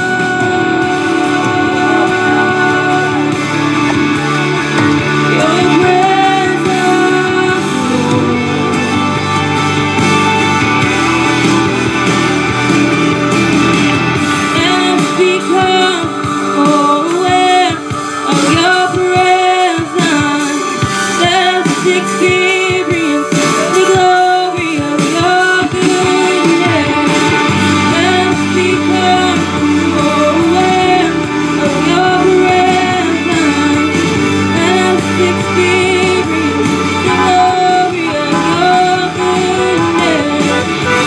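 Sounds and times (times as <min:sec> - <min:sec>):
woman singing gospel song: 0:00.0 - 0:04.4, 0:05.1 - 0:09.1, 0:14.4 - 0:41.0
instrumental accompaniment: 0:00.0 - 0:41.0.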